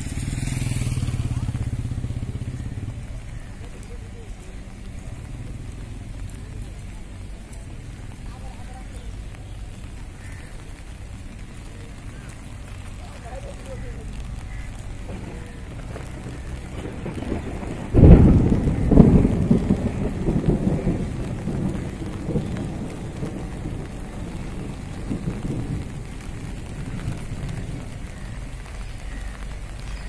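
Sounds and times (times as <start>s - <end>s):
rain falling: 0.0s - 30.0s
thunderclap rumbling: 0.0s - 30.0s.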